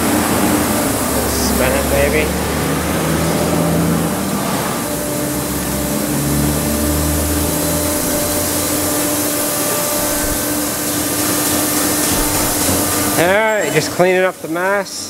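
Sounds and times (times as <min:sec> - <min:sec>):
low steady hum: 0:00.0 - 0:13.8
machine whooshing hiss: 0:00.0 - 0:14.0.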